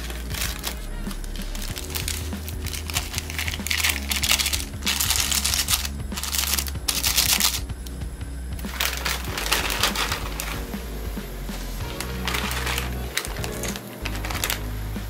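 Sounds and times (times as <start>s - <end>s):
foil packet crinkling: 0.0s - 7.6s, 8.7s - 10.6s, 11.9s - 14.6s.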